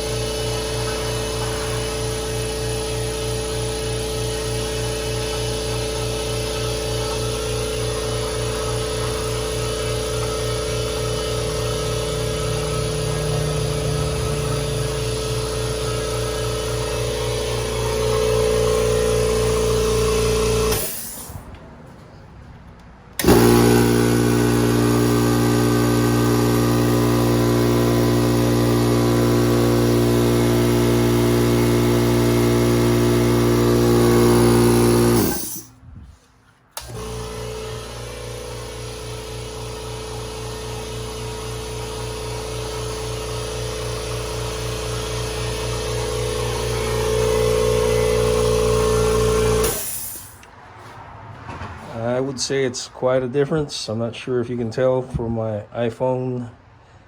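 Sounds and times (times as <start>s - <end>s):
air compressor running loudly: 0.0s - 21.4s, 23.2s - 35.7s, 36.8s - 50.5s
air compressor humming: 0.0s - 22.1s, 23.1s - 51.0s.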